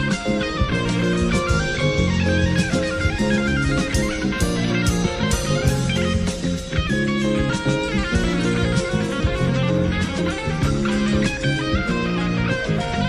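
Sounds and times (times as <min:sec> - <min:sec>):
rock-jazz fusion band playing: 0:00.0 - 0:13.0.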